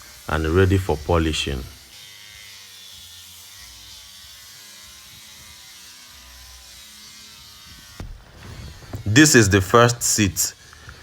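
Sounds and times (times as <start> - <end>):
electric sander on wood: 0.0 - 11.0.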